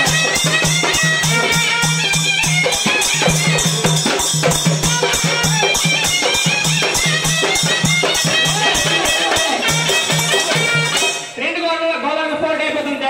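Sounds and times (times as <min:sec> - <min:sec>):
hand drum folk music: 0:00.0 - 0:11.4.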